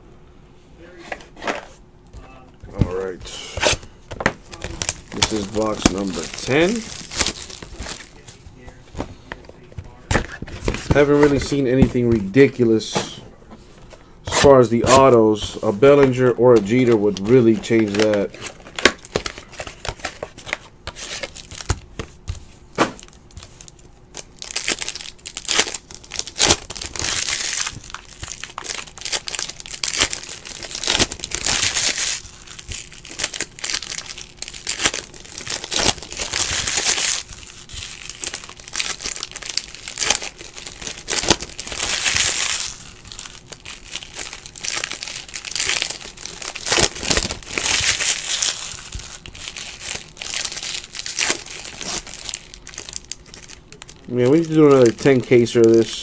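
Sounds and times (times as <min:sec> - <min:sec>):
foil wrappers crinkling and tearing: 0:04.5 - 0:12.8, 0:14.4 - 0:56.0.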